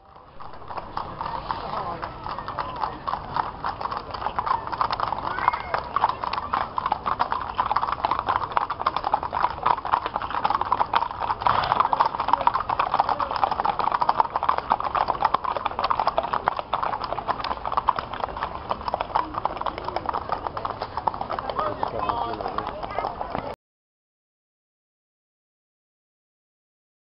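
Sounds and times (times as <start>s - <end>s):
horse hooves on pavement: 0.0s - 23.6s.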